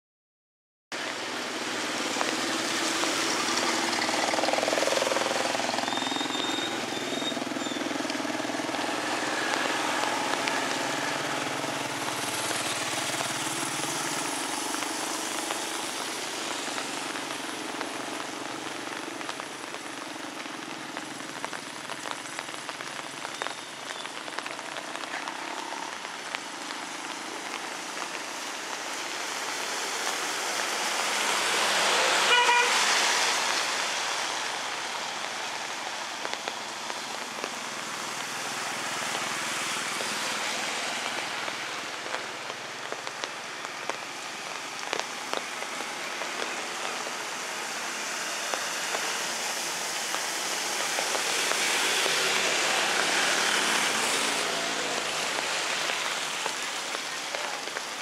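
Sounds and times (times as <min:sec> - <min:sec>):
light rain falling: 0:01.0 - 0:58.0
motorbikes passing on wet road: 0:01.0 - 0:58.0.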